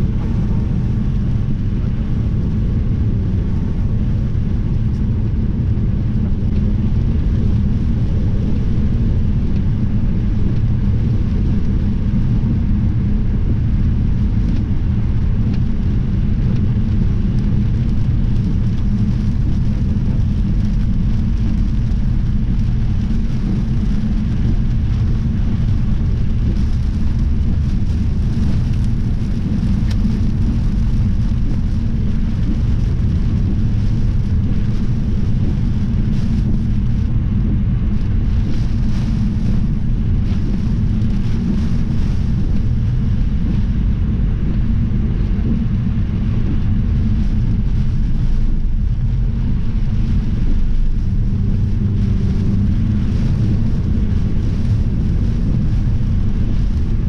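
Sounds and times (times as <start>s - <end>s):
storm wind buffeting microphone: 0.0s - 57.0s.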